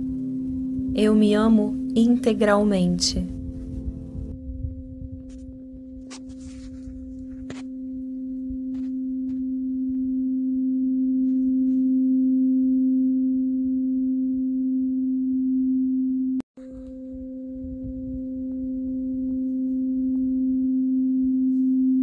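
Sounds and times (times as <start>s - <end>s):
tuning fork ringing: 0.0s - 22.0s.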